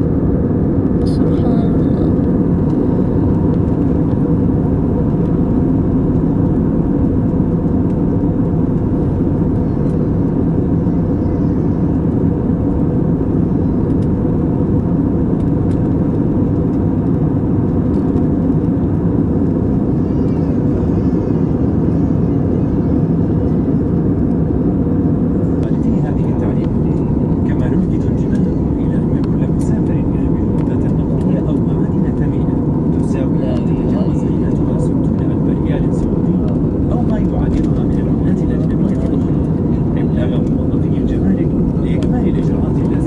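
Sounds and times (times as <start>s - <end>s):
airplane cabin engine rush: 0.0s - 43.0s.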